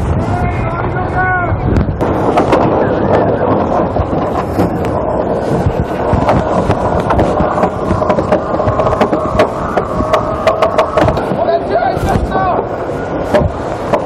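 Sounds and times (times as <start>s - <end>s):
water rushing along hull: 0.0s - 14.0s
wind buffeting microphone: 0.0s - 14.0s
deck winch clicking: 2.0s - 14.0s.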